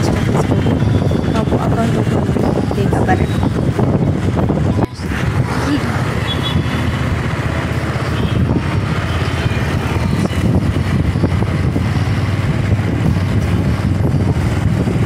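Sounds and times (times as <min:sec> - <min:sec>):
traffic and road noise: 0:00.0 - 0:15.0
wind rumbling on microphone: 0:00.0 - 0:15.0.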